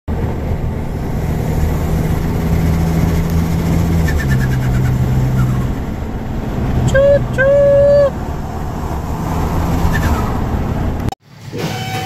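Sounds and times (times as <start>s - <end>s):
car engine droning: 0.1s - 11.2s.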